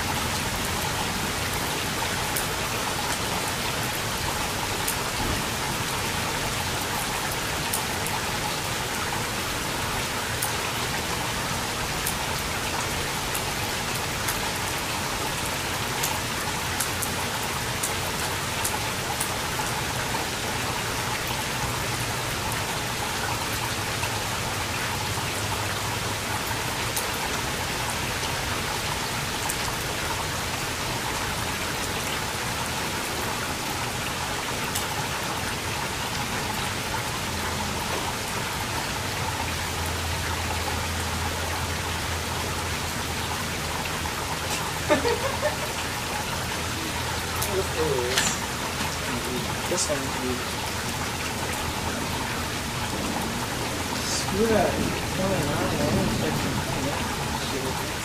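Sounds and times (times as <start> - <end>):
raindrops ticking on surfaces: 0.0 - 58.0
steady rain hiss: 0.0 - 58.0.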